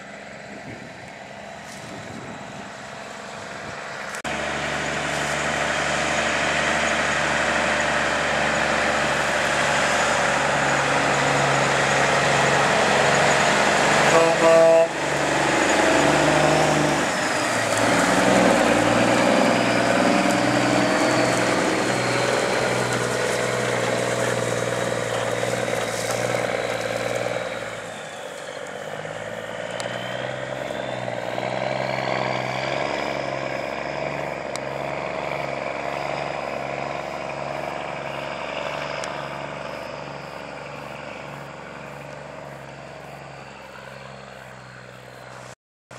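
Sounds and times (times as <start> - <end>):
diesel machinery running: 0.0 - 45.6.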